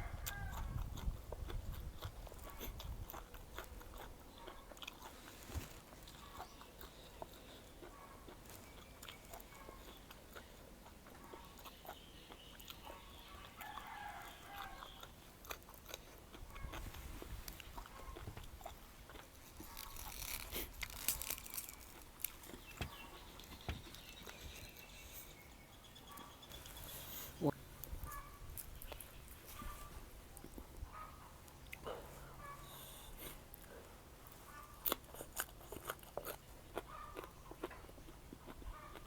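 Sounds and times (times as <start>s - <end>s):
chewing and crunching: 0.0s - 39.0s.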